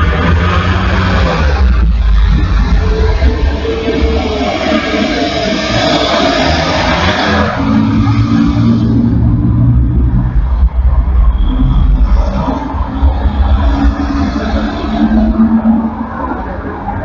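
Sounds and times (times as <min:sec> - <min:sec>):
highway traffic passing: 0:00.0 - 0:17.0.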